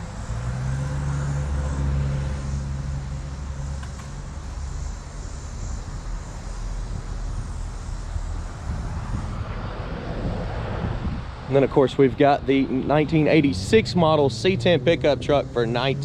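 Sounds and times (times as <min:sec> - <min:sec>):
outdoor background noise: 0:00.0 - 0:16.0
vehicle engine drone: 0:00.0 - 0:16.0.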